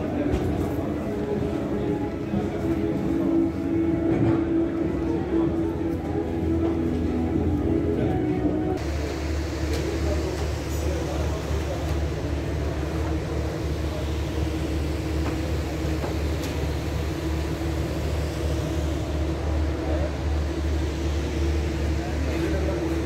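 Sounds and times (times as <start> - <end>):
constant crowd din: 0.0 - 23.0
steady low hum: 0.0 - 23.0.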